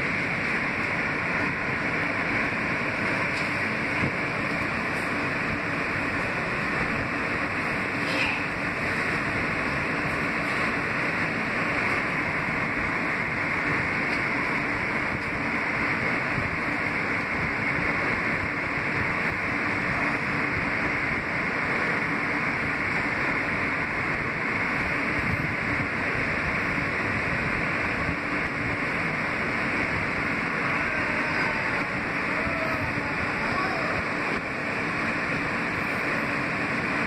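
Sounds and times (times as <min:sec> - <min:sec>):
subway car wheels on rails: 0:00.0 - 0:37.0.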